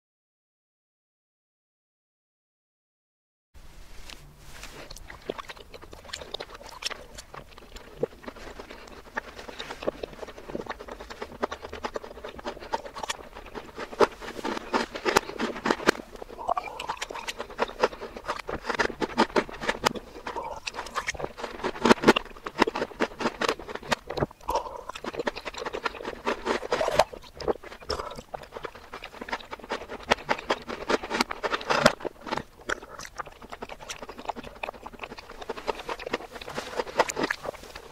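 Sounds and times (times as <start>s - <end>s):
reversed wet mouth sounds: 4.5s - 37.9s.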